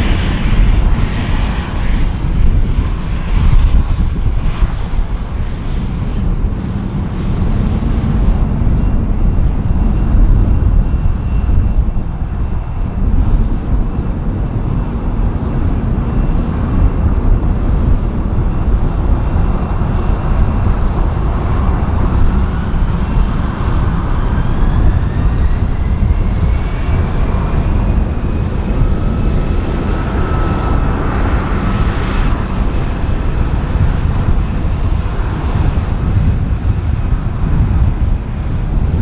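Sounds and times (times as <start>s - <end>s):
jet engine whine rising: 0.0s - 39.0s
jet engines running: 0.0s - 39.0s.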